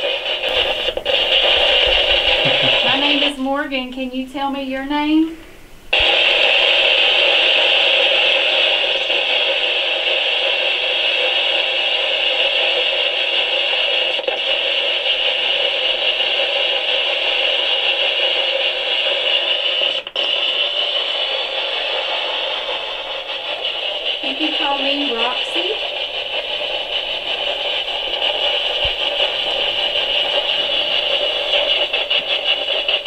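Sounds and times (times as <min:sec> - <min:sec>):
radio static hiss: 0:00.0 - 0:33.0.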